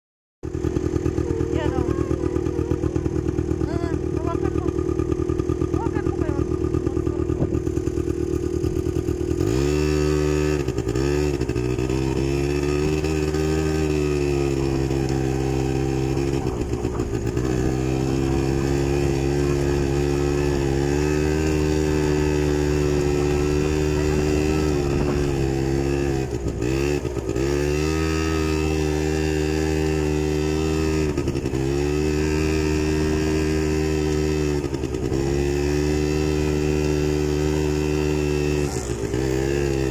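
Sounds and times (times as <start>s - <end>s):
off-road vehicle engine running: 0.4s - 39.9s.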